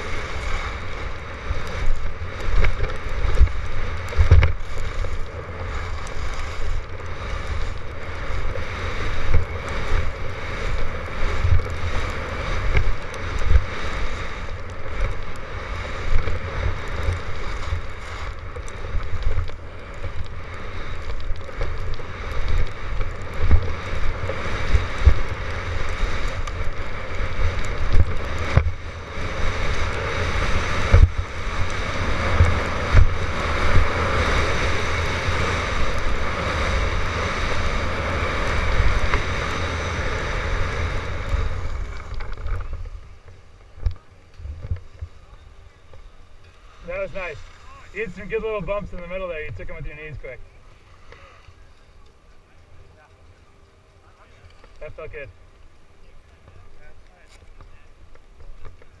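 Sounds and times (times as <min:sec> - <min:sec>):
wind buffeting microphone: 0:00.0 - 0:50.4
skis sliding over packed snow: 0:00.0 - 0:59.0.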